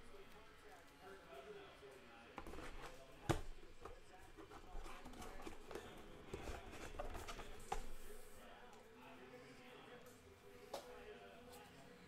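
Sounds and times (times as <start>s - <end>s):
faint background talk: 0.0s - 12.0s.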